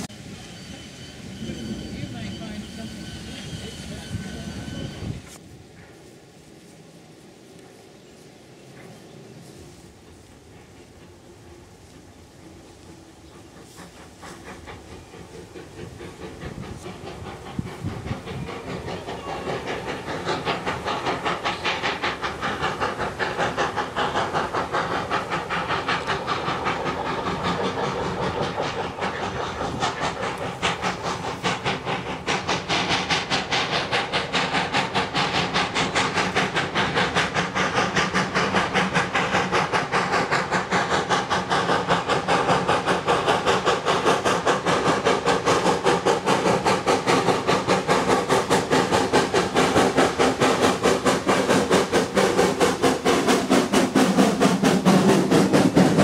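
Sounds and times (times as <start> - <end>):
steam hiss: 0.0 - 56.0
steam locomotive chuffing: 0.0 - 56.0.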